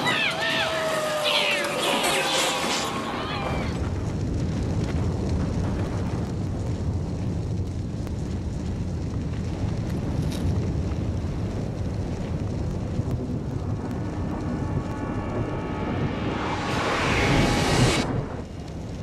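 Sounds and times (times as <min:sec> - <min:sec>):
dense low rumble: 0:03.6 - 0:19.0.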